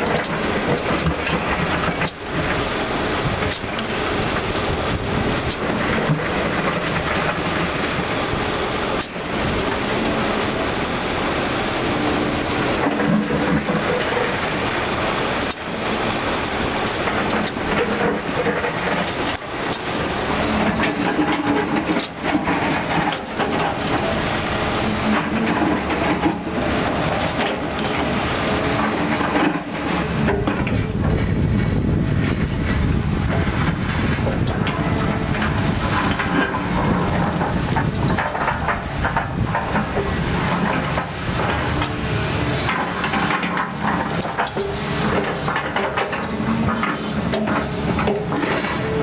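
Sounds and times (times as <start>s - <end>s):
excavator diesel and hydraulics: 0.0s - 49.0s.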